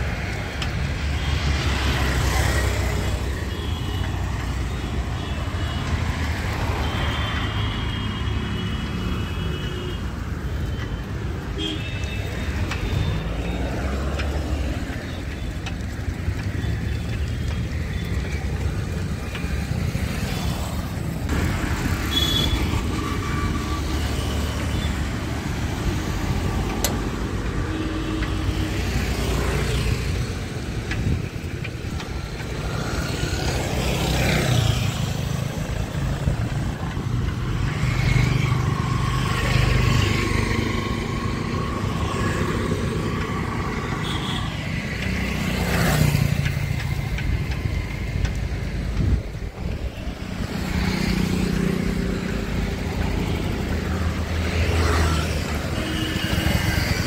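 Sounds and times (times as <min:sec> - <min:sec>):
cars and scooters passing: 0:00.0 - 0:57.0
engine and tyre rumble: 0:00.0 - 0:57.0.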